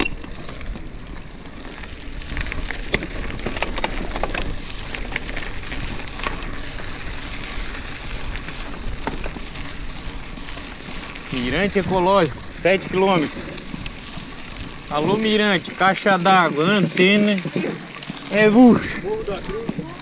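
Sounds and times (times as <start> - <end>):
bicycle clicks and crackles: 0.0 - 20.0
bicycle rushing over rough ground: 0.0 - 20.0.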